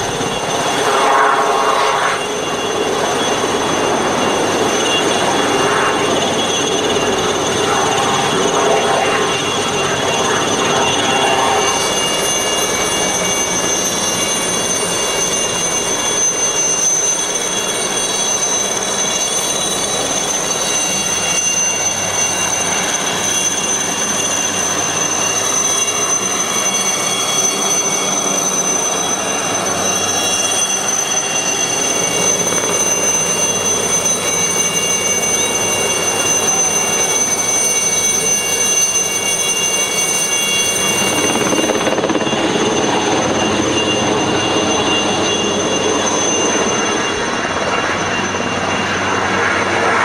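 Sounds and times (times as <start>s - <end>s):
helicopter rotor and engine noise: 0.0s - 50.0s
helicopter turbine whine: 0.0s - 50.0s.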